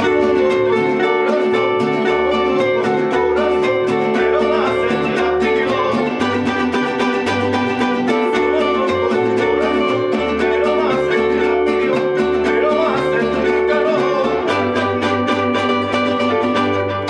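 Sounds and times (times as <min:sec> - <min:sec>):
plucked bass guitar: 0:00.0 - 0:17.0
strummed acoustic guitars: 0:00.0 - 0:17.0.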